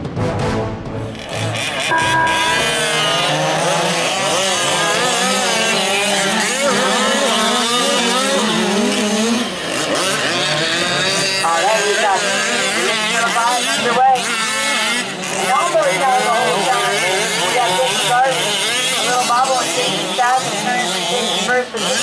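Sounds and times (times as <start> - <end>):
small two-stroke engines revving: 1.2 - 22.0.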